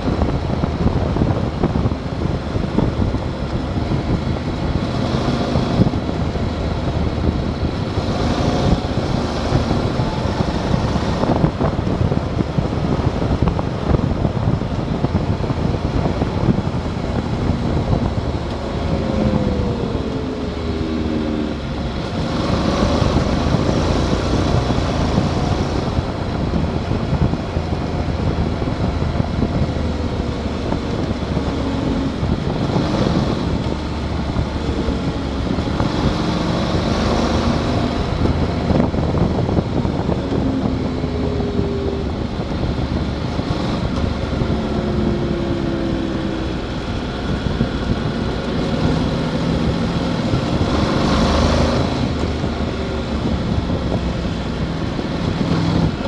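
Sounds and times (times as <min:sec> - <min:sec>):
motorcycle engine revving: 0:00.0 - 0:56.0
wind rushing on microphone: 0:00.0 - 0:56.0.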